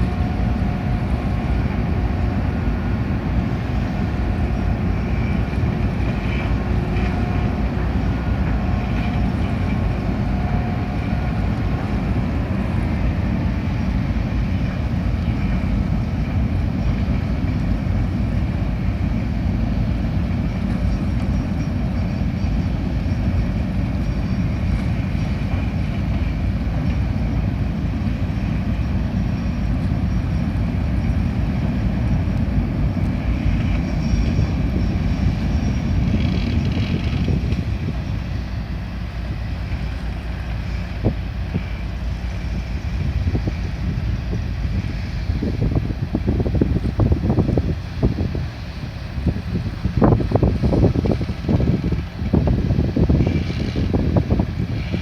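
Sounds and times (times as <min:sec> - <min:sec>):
ship engines rumbling: 0:00.0 - 0:55.0.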